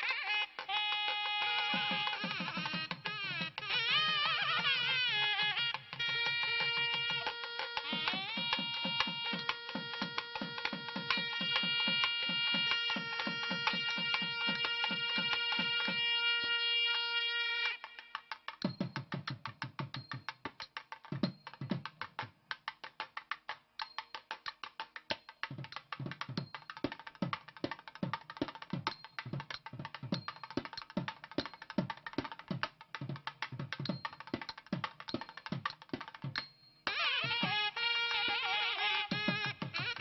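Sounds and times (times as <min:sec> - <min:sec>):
rapid drum percussion: 0:00.0 - 0:40.0.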